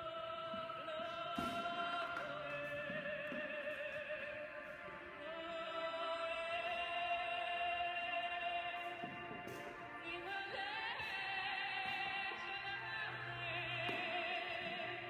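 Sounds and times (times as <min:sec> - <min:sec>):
operatic singing: 0:00.0 - 0:15.0.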